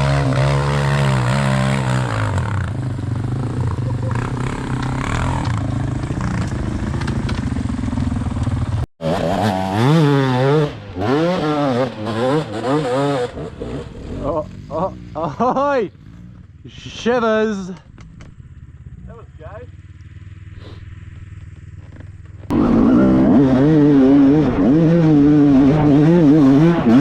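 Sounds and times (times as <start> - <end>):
dirt bike engine revving: 0.0 - 16.5, 17.4 - 27.0.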